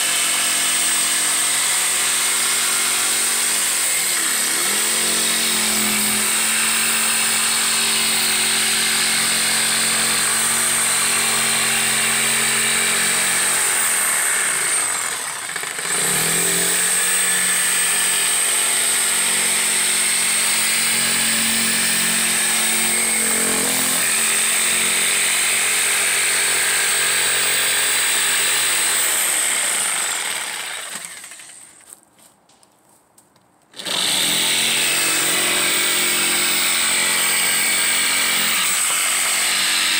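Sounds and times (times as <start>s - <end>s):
jigsaw cutting wood: 0.0s - 31.9s, 33.7s - 39.9s.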